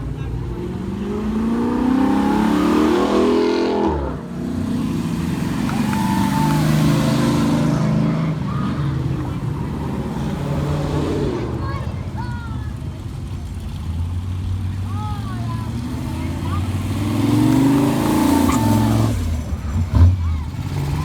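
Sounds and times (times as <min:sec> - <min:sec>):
old car engines: 0:00.0 - 0:21.0.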